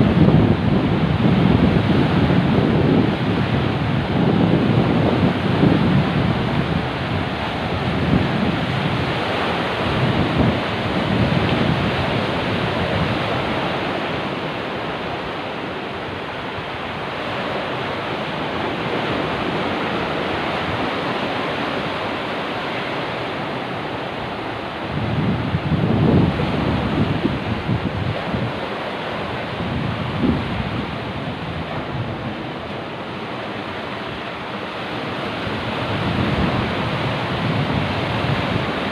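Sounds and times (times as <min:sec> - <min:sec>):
sea waves breaking: 0:00.0 - 0:38.9
wind buffeting microphone: 0:00.0 - 0:38.9.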